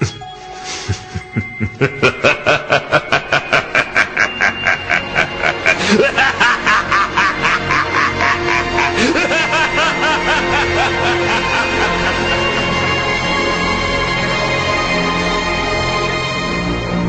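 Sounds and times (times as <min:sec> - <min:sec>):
person laughing rhythmically: 0:00.0 - 0:14.2
background music: 0:00.0 - 0:17.0.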